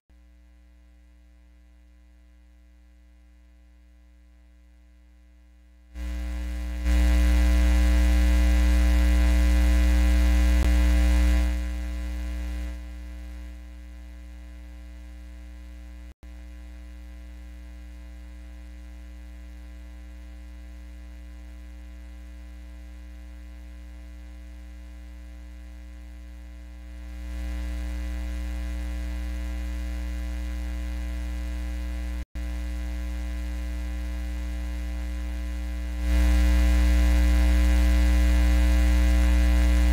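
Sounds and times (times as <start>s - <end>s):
electrical mains hum: 0.1s - 39.9s.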